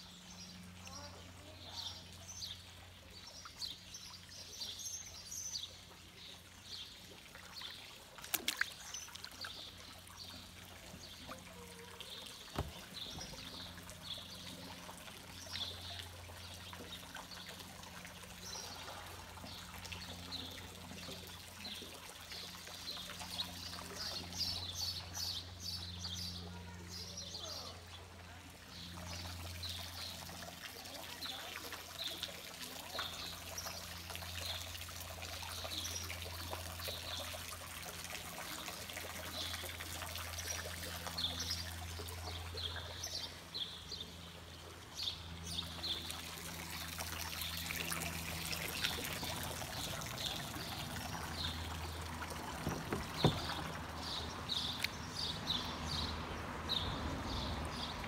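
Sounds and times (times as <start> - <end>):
water dripping and splashing: 1.9 - 25.1, 28.1 - 43.3, 45.4 - 58.0.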